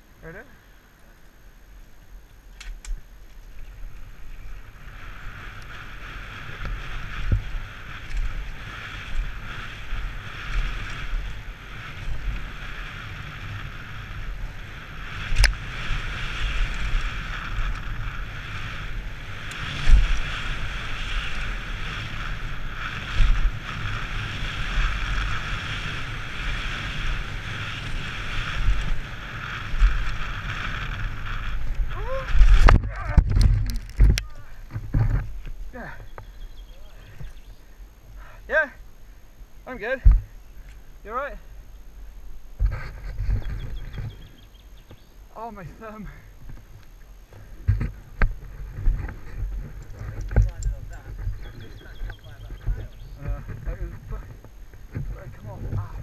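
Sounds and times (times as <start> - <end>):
tyre and wind noise: 2.4 - 56.0.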